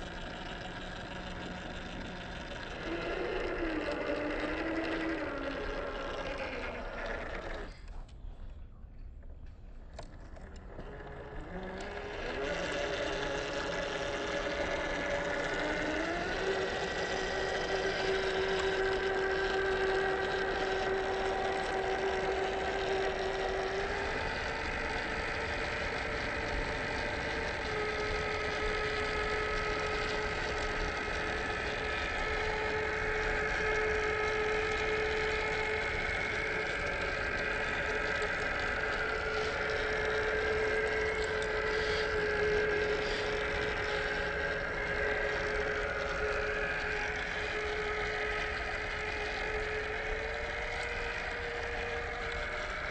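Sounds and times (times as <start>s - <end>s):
electric motor whining: 0.0s - 8.2s, 9.9s - 52.9s.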